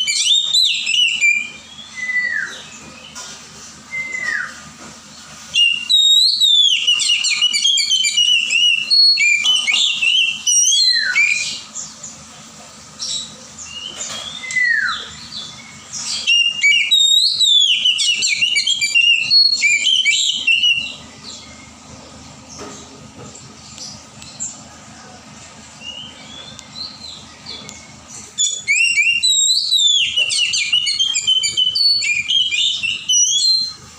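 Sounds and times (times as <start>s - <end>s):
bird singing whistled notes: 0.0s - 3.2s, 3.8s - 4.7s, 5.5s - 12.0s, 13.0s - 22.8s, 25.8s - 33.9s.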